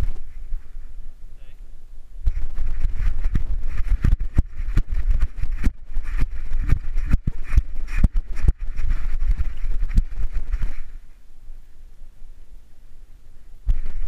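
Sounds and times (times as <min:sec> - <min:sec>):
wind rumble: 0:00.0 - 0:14.0.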